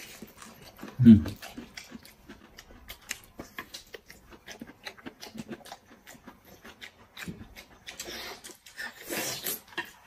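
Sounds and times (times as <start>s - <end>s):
chewing bamboo shoots: 0.0s - 10.0s.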